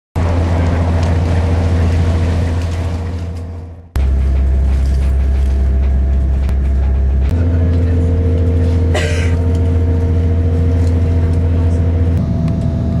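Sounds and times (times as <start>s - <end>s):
train rumble inside carriage: 0.2s - 13.0s.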